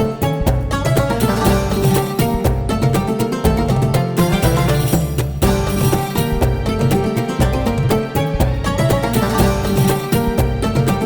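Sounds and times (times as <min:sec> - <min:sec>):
background music with plucked strings: 0:00.0 - 0:11.0.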